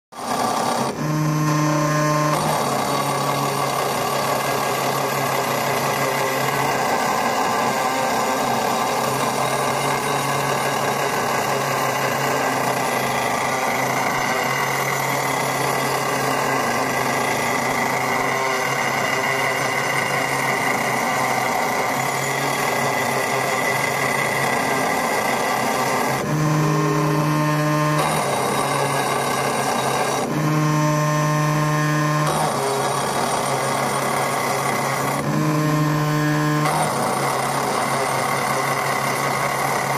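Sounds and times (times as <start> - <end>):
engraving burr grinding stone: 0.2 - 39.9
motor hum: 0.2 - 39.9.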